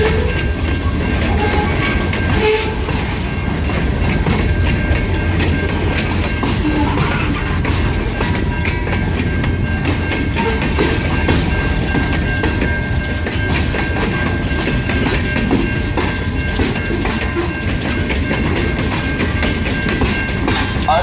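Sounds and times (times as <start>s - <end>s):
freight train rumbling past: 0.0s - 21.0s
wheels clicking over rail joints: 0.0s - 21.0s.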